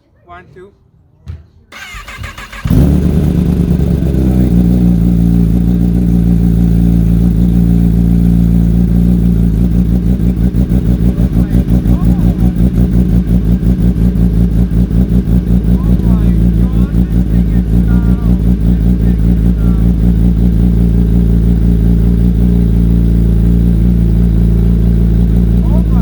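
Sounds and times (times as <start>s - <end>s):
motorcycle engine starting and idling: 1.7s - 26.0s.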